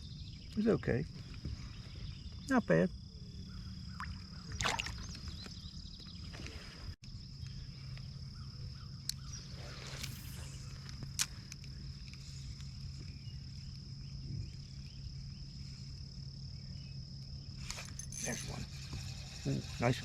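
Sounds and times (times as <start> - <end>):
insects high-pitched drone: 0.0 - 6.3, 7.0 - 20.0.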